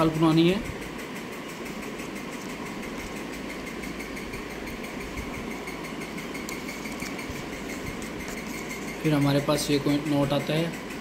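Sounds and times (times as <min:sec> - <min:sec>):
small motor humming: 0:01.0 - 0:10.0.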